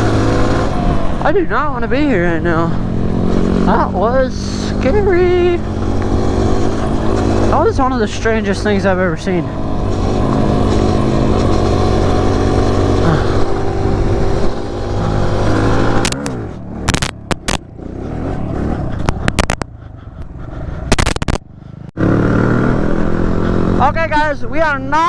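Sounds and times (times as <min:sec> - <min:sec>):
sharp noises: 0:00.0 - 0:24.1
dirt bike engine running: 0:00.0 - 0:24.4.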